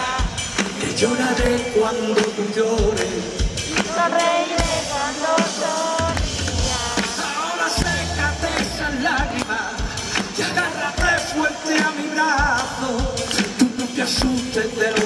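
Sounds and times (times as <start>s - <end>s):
drum kit beat: 0.0s - 15.0s
live pop band playing: 0.0s - 15.0s.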